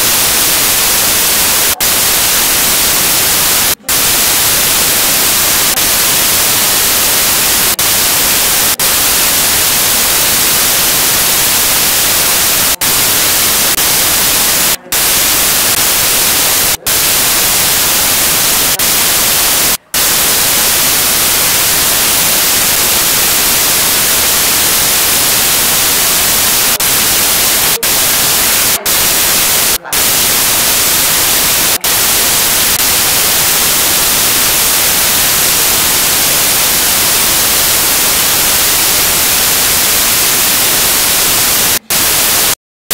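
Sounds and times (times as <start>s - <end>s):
loud static hiss: 0.0s - 42.9s.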